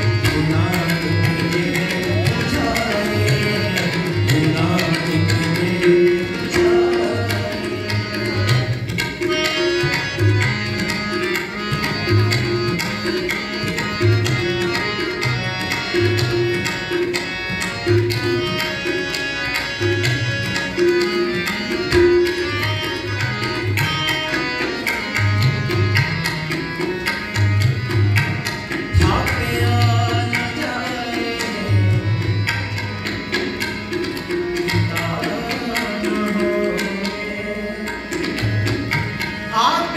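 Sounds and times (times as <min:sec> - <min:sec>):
harmonium playing: 0:00.0 - 0:39.9
tabla rhythm: 0:00.0 - 0:39.9.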